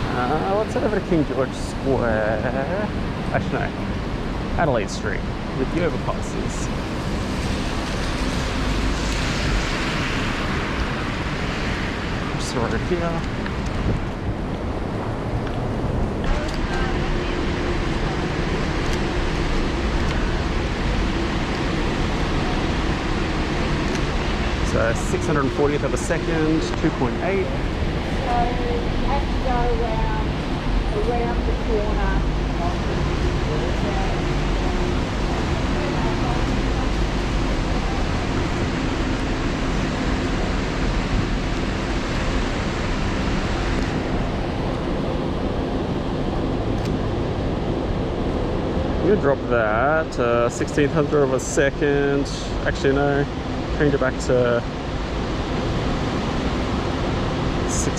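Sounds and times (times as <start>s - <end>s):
city traffic noise: 0.0s - 57.9s
heavy rain: 0.0s - 57.9s.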